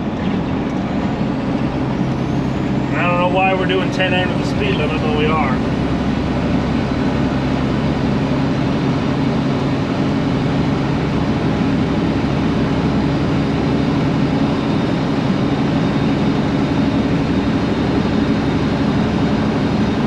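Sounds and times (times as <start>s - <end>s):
road noise: 0.0s - 20.0s
truck diesel engine droning: 0.0s - 20.0s.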